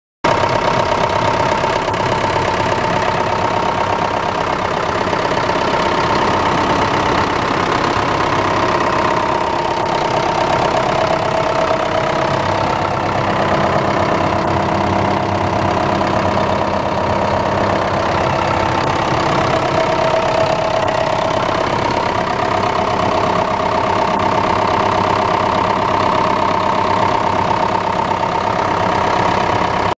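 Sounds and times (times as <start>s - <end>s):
diesel engine idling: 0.2s - 30.0s.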